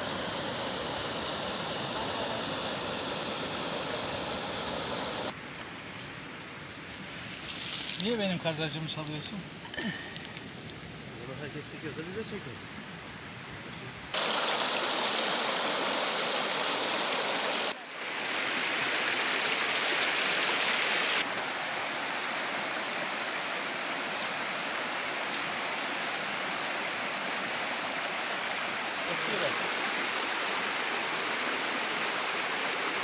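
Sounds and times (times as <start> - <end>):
creek flowing over stones: 0.0 - 5.4, 6.2 - 33.0.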